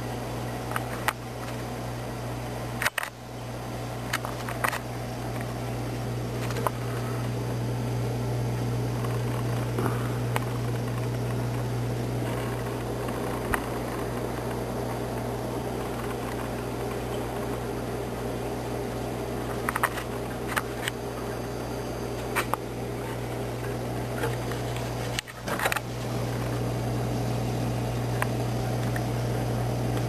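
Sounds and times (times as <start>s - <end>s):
aquarium pumps humming: 0.0s - 30.0s.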